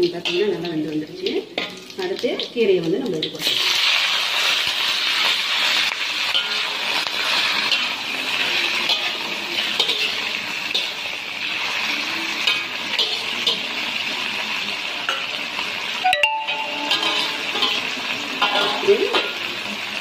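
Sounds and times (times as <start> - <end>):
vegetables sizzling in a wok: 0.0 - 20.0
metal spatula scraping a pan: 1.5 - 2.5, 3.2 - 15.9, 16.7 - 19.9.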